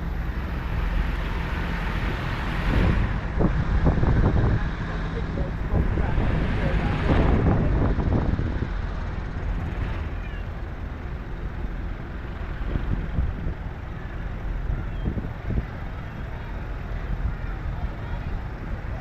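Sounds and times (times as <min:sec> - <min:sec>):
tractor engines passing: 0:00.0 - 0:19.0.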